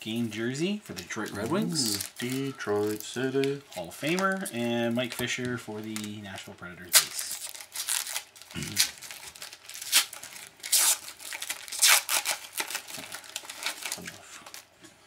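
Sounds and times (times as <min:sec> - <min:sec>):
foil wrapper crinkling and tearing: 0:00.9 - 0:14.7.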